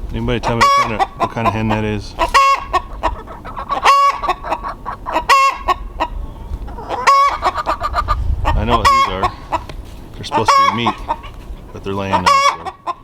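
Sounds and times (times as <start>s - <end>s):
chicken squawking call: 0.0s - 13.0s
hens clucking: 0.0s - 13.0s.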